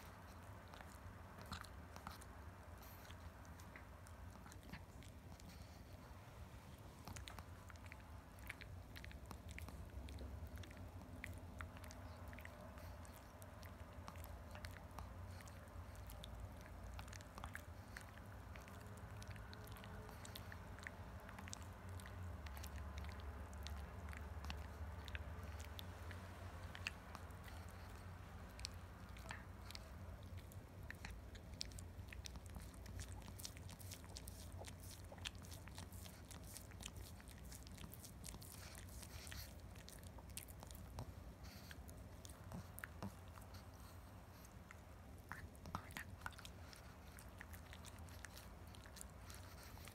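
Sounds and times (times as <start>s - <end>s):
dog chewing a hard stick: 7.0s - 49.9s.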